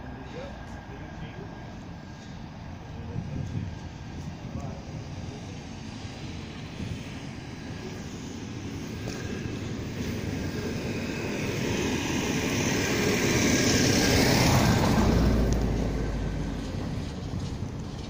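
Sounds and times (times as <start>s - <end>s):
deep train rumble: 0.0s - 18.0s
diesel locomotive engine drone: 0.0s - 18.0s.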